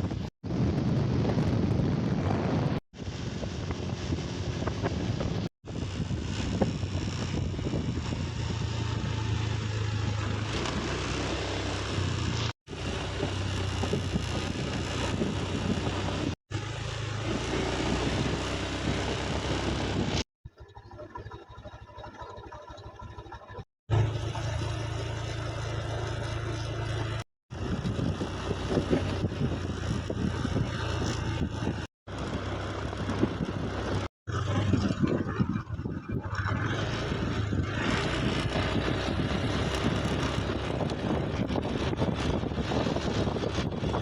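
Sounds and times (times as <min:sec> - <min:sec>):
wind on microphone: 0:00.0 - 0:16.4, 0:17.3 - 0:20.3, 0:26.4 - 0:44.0
vehicle engine running: 0:00.0 - 0:20.2, 0:22.8 - 0:44.0.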